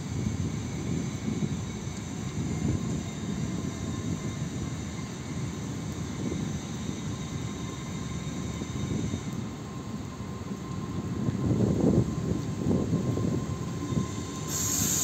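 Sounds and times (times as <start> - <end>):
low rumble of train: 0.0 - 15.0.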